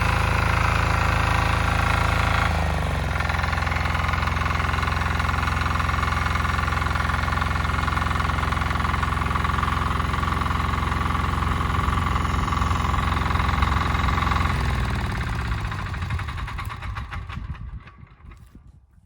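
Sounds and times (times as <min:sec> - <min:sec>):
diesel engine running down: 0:00.0 - 0:18.4.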